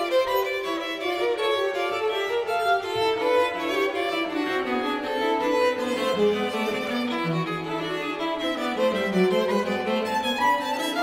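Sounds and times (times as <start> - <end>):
cello playing: 0.0 - 11.0
violin playing: 0.0 - 11.0.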